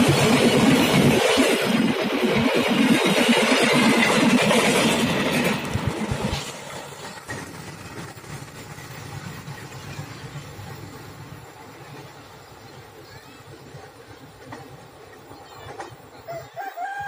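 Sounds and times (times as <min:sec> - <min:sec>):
train wheels clattering on rails: 0:00.0 - 0:16.3
low train rumble: 0:00.0 - 0:17.0.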